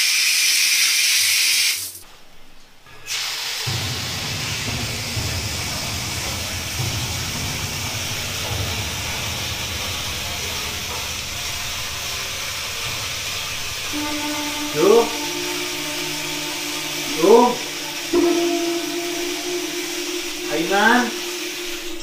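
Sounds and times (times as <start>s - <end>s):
tap water running and splashing: 0.0s - 2.0s, 3.1s - 22.0s.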